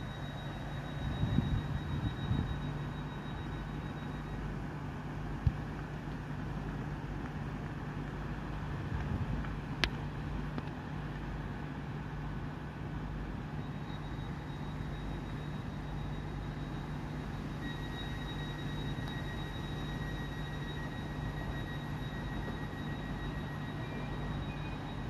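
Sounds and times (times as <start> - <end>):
high whine: 0.0 - 25.0
lower whine: 0.0 - 25.0
train diesel engine hum: 0.0 - 25.0.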